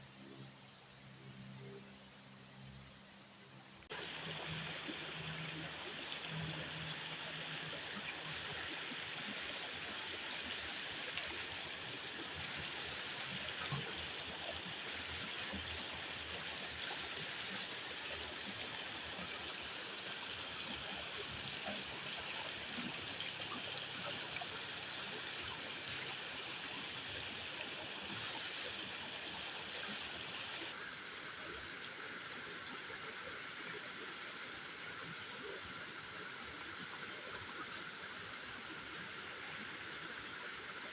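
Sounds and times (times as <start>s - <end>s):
rushing water: 3.9s - 40.9s.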